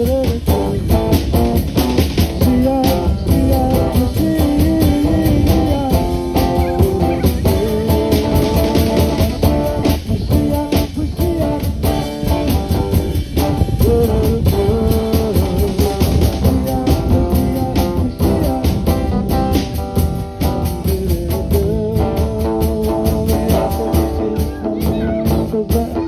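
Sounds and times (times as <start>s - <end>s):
drum kit steady beat: 0.0s - 26.0s
rock band guitars: 0.0s - 26.0s.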